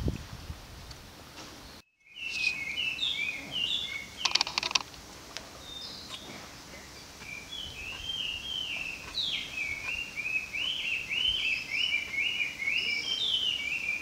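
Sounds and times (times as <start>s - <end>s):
songbird singing: 1.6s - 14.0s.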